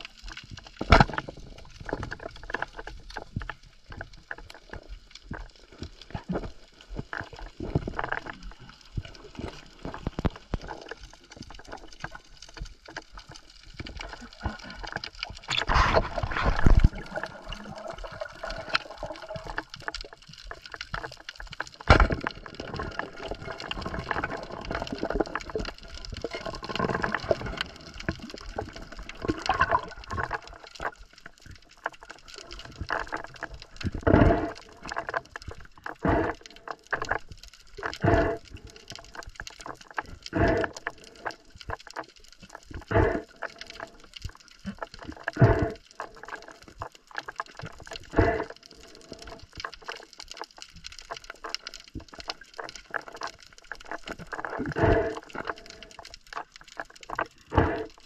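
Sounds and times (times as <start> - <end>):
underwater crackle of clicks: 0.0 - 58.0.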